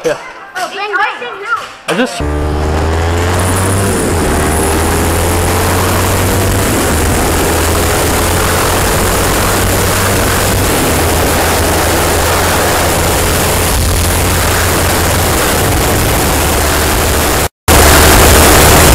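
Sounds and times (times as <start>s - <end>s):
motorcycle engine at speed: 2.2s - 18.9s.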